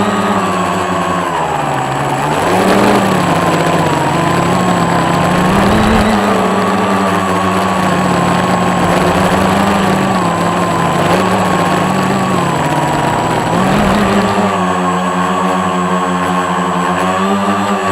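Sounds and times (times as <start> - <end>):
quadcopter motors humming: 0.0 - 17.9.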